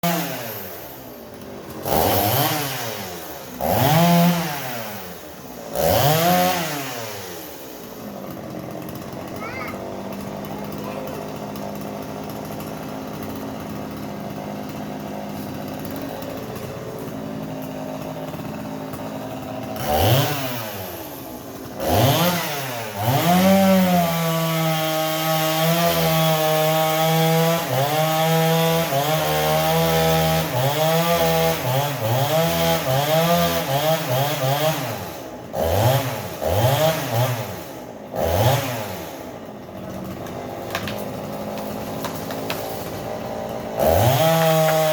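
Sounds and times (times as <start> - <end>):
chainsaw cutting wood: 0.0 - 44.9
chainsaw idling and revving: 0.0 - 44.9.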